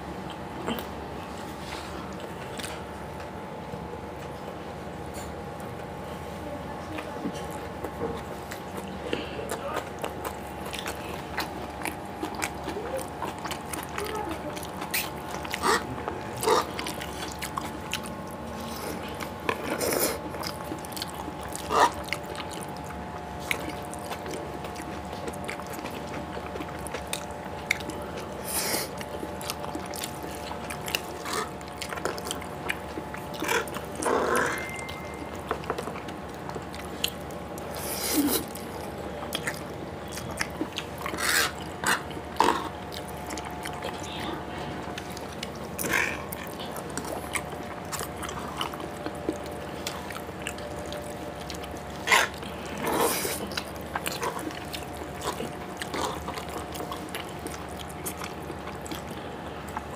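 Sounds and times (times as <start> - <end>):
chewing and wet mouth sounds: 0.0 - 59.9
faint hum: 0.0 - 59.9.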